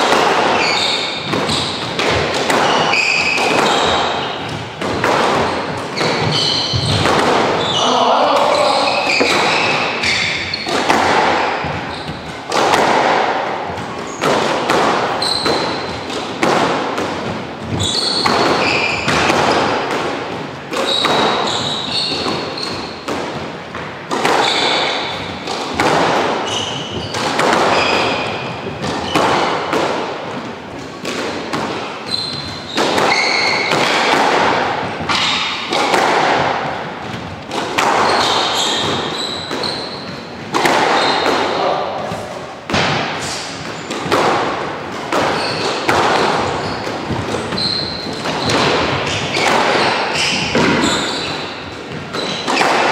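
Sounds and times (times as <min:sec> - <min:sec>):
squash ball hits echoing: 0:00.0 - 0:52.9
shoes squeaking on wooden floor: 0:00.2 - 0:16.4, 0:17.2 - 0:29.7, 0:31.7 - 0:42.5, 0:45.1 - 0:52.9.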